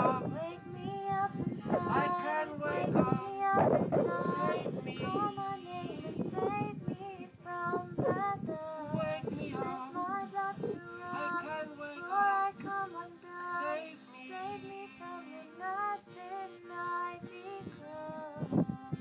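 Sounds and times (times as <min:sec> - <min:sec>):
high voice singing: 0:00.0 - 0:19.0.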